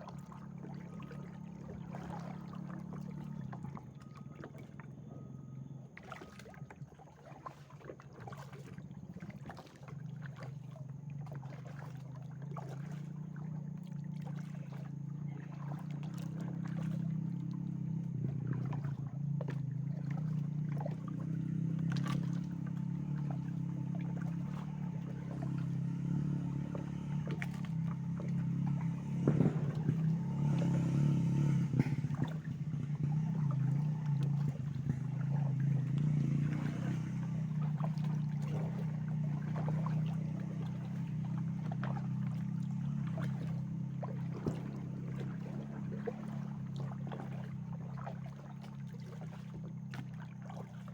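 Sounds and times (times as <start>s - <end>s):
boat motor humming: 0.0s - 50.9s
water splashes and drips: 0.0s - 50.9s.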